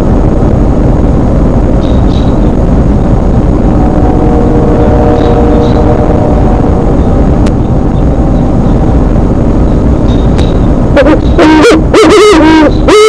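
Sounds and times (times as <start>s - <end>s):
faint droning tone: 0.0s - 13.0s
wind rumbling on microphone: 0.0s - 13.0s.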